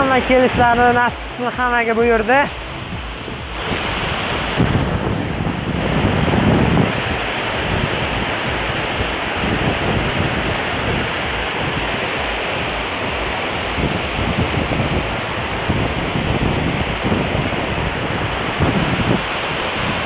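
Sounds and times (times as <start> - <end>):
stream water rushing: 0.0 - 20.0
wind buffeting microphone: 0.0 - 20.0.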